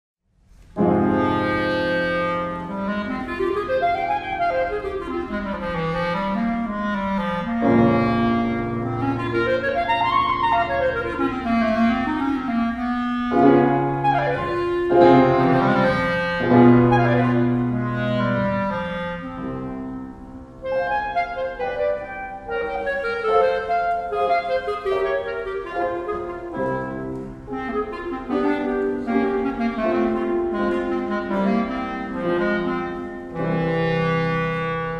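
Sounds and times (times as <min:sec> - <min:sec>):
piano chords: 0:00.4 - 0:34.9
clarinet melody with bending notes: 0:00.7 - 0:34.9.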